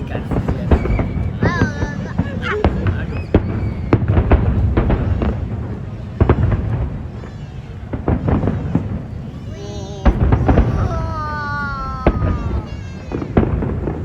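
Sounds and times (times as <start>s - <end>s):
fireworks bursting with sharp bangs: 0.0s - 14.0s.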